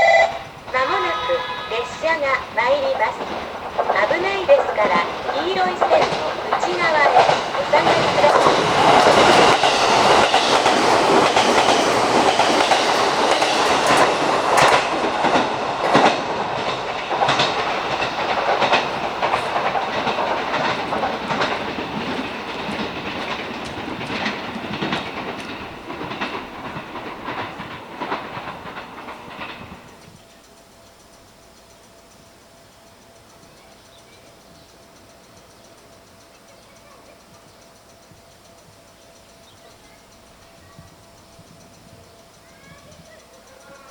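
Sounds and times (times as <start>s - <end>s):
train wheels clacking over joints: 0.0s - 43.9s.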